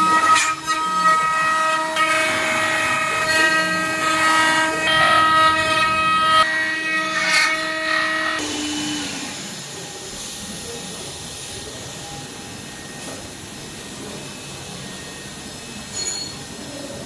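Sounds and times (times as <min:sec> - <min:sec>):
wood router whining: 0:00.0 - 0:15.8.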